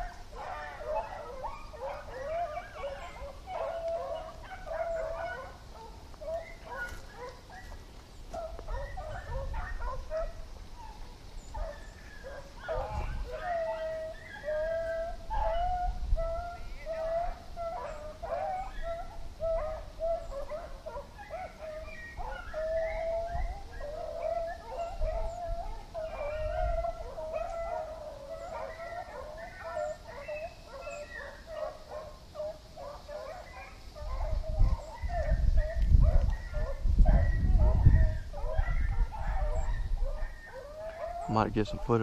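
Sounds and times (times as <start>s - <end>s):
dogs baying and howling: 0.0s - 42.0s.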